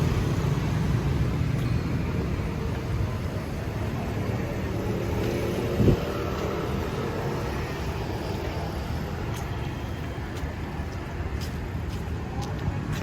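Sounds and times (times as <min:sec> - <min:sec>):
vehicle engines passing: 0:00.0 - 0:13.0.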